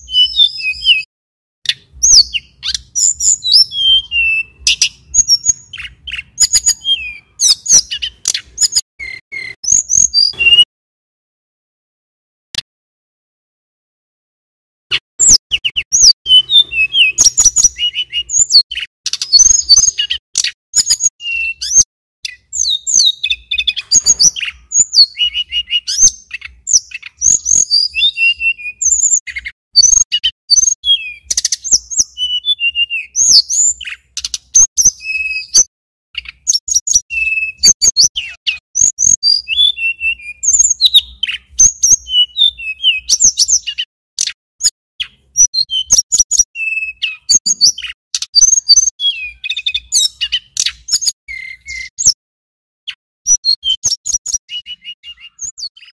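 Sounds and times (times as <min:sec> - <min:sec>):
bird singing chirping trills: 0:00.0 - 0:01.1, 0:01.7 - 0:10.7, 0:14.9 - 0:52.2, 0:52.9 - 0:55.9.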